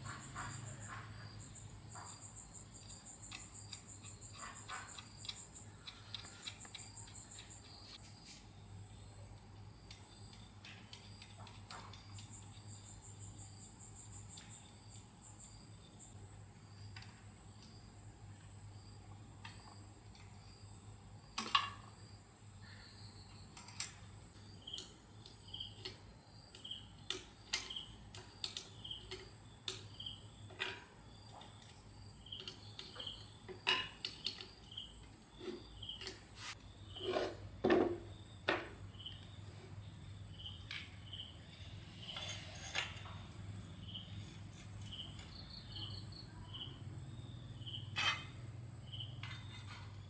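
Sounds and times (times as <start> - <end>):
insect trill: 0.0 - 8.0, 8.9 - 50.0.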